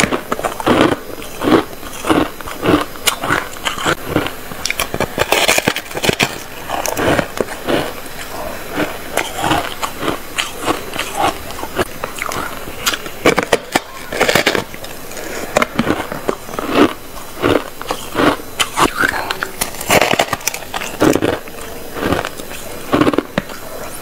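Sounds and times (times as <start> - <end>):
crunching ice: 0.0 - 24.0.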